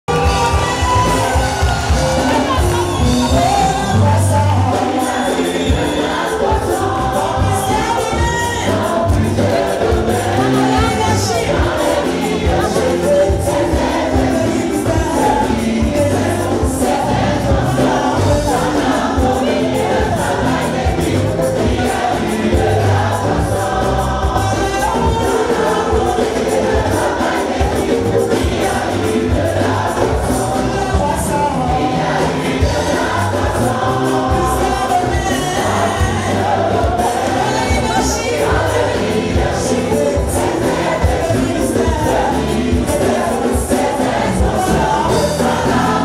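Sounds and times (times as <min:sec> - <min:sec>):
choir and congregation singing: 0:00.0 - 0:46.0
live band playing: 0:00.0 - 0:46.0.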